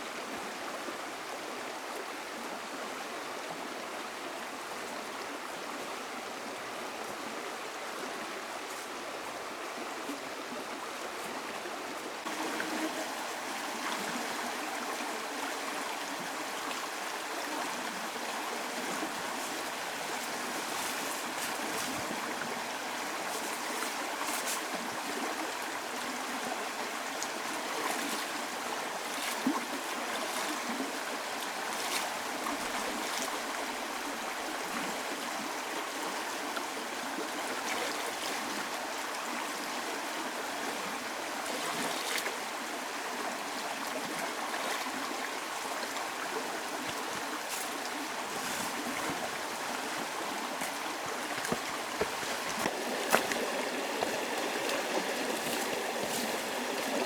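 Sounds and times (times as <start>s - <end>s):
rushing running water: 0.0s - 57.0s.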